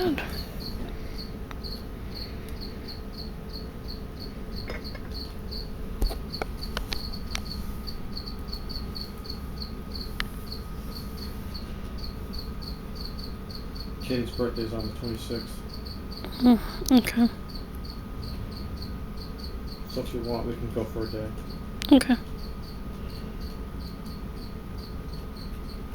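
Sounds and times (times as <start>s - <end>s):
cricket chirping: 0.0s - 25.9s.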